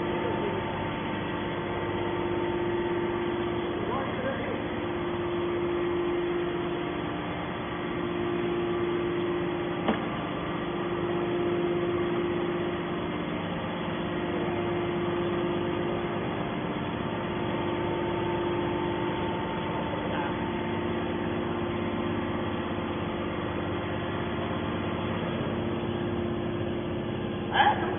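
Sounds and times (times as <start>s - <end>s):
hydraulic power unit humming: 0.0s - 27.9s.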